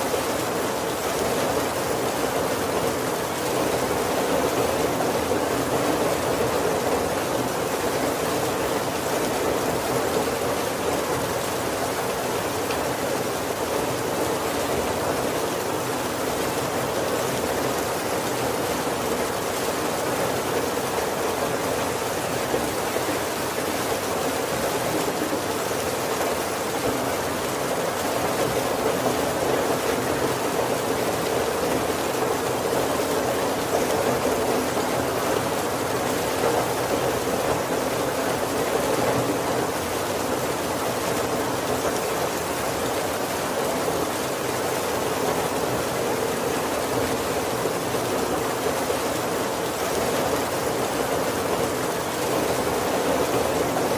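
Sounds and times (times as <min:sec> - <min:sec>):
heavy rain on wooden roof: 0:00.0 - 0:53.9.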